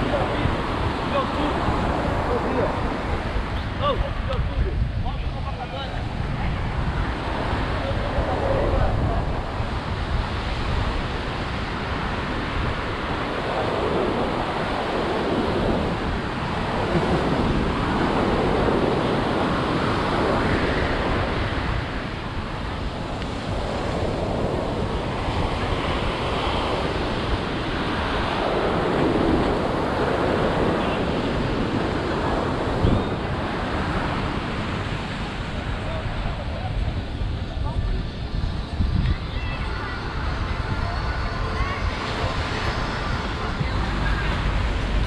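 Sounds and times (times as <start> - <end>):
ocean surf breaking: 0.0 - 45.0
wind rumbling on microphone: 0.0 - 45.0.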